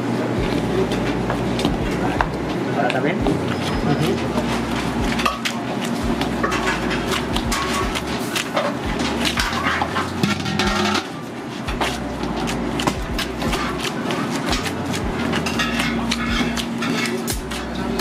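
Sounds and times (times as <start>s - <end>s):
dough kneaded in steel bowl: 0.0s - 18.0s
kitchen hum: 0.0s - 18.0s.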